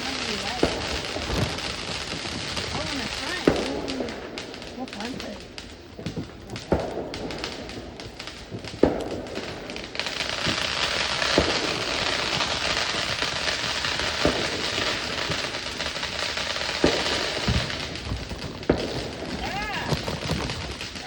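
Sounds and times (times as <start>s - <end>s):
dense firework crackle: 0.0s - 21.0s
sharp firework bangs: 0.0s - 21.0s.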